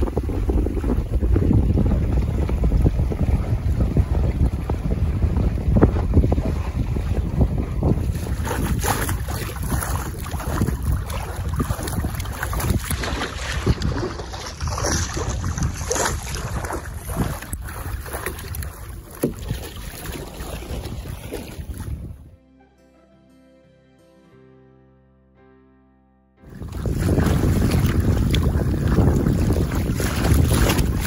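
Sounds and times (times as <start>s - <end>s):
water splashing along a boat hull: 0.0s - 22.3s, 26.5s - 31.0s
wind buffeting microphone: 0.0s - 22.3s, 26.4s - 31.0s.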